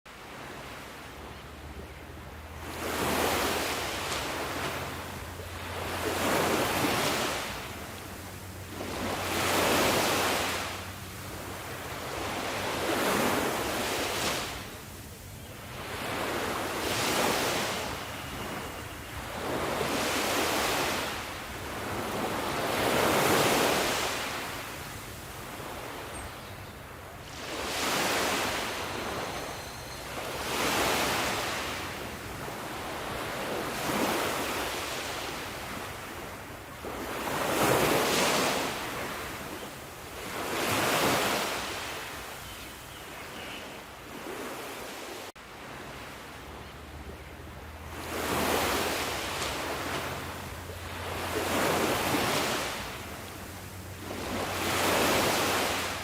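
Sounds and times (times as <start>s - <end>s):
sea waves breaking on shore: 0.1s - 56.0s.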